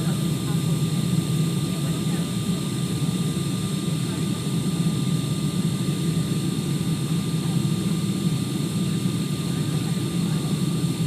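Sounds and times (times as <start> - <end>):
airliner cabin airflow and engines: 0.0 - 11.0.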